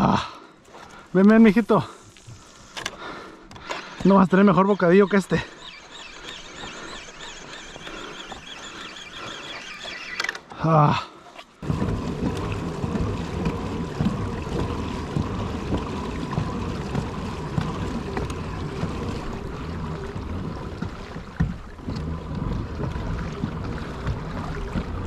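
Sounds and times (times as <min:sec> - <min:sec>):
water splashing along hull: 0:00.0 - 0:25.0.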